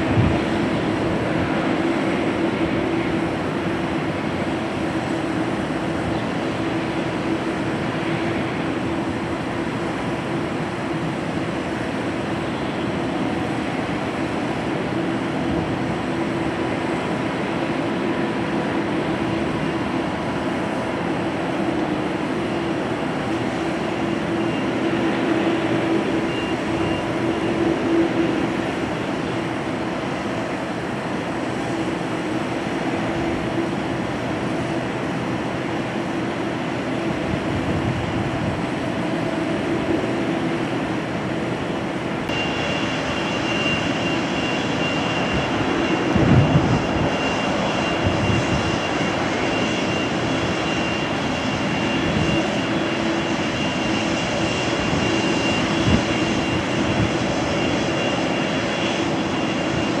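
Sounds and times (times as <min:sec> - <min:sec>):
distant jet engines running: 0:00.0 - 1:00.0
high jet whine: 0:00.0 - 1:00.0.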